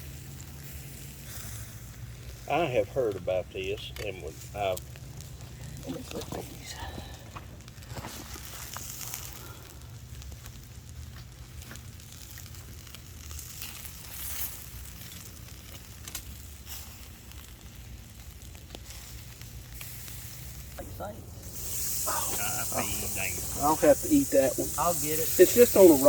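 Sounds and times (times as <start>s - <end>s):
burgers sizzling: 0.0s - 26.0s
campfire crackling: 0.0s - 26.0s.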